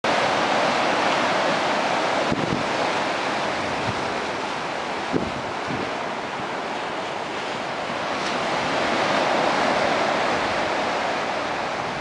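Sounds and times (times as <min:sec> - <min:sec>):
surf breaking over rocks: 0:00.1 - 0:12.0.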